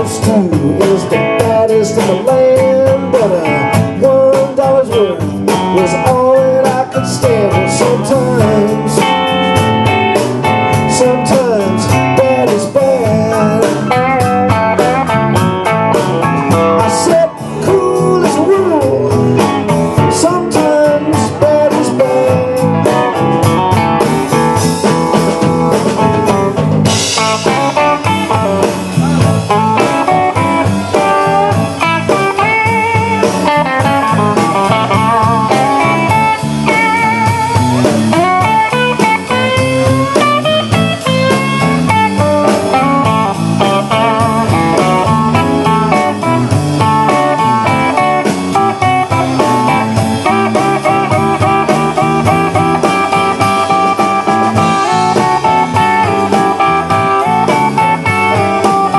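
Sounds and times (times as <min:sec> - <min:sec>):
bass and drums: 0:00.0 - 0:58.9
electric guitar solo: 0:05.0 - 0:58.9.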